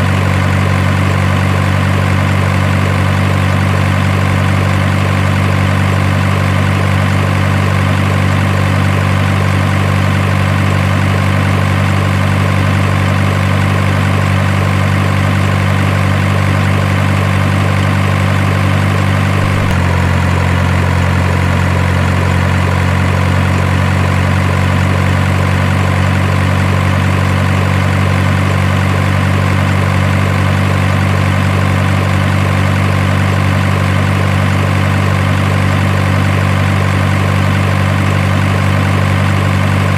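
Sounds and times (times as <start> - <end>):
engine idling drone: 0.0 - 39.9.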